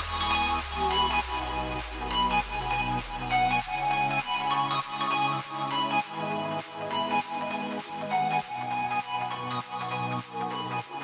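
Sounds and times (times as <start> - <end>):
electronic music with synth: 0.0 - 11.0.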